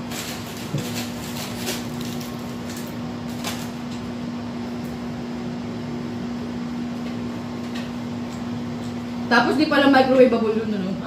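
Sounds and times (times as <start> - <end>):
appliance electrical hum: 0.0 - 11.0.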